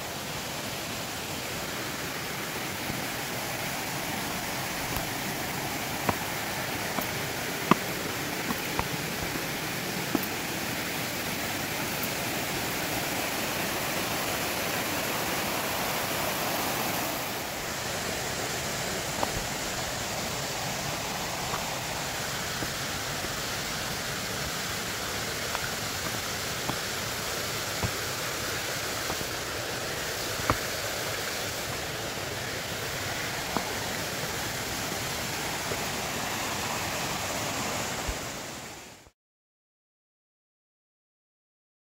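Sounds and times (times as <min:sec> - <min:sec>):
water rushing: 0:00.0 - 0:39.1.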